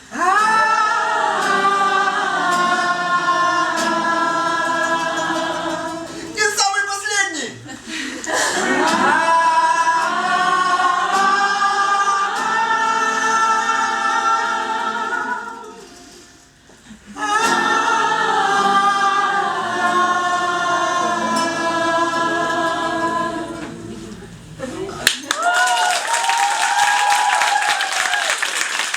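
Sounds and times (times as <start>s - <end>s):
group singing held chords: 0.0s - 6.5s, 7.8s - 25.0s.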